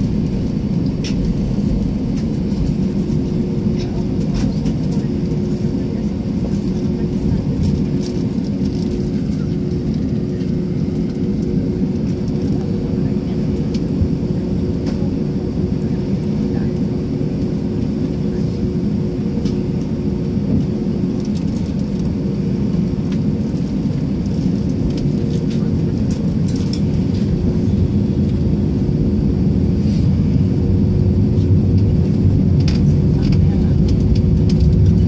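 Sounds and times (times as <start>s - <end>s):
jet engine rumble: 0.0s - 35.0s.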